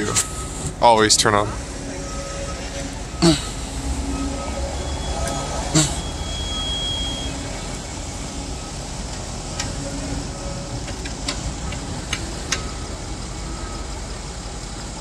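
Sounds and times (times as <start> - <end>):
cars passing with tyre noise: 0.0 - 15.0.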